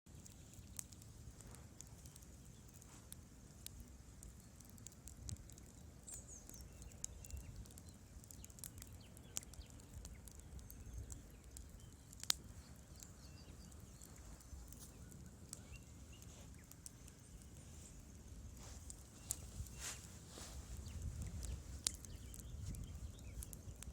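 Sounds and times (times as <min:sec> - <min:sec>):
low rumble of flame: 0:00.1 - 0:23.9
wood fire crackling: 0:00.1 - 0:23.9.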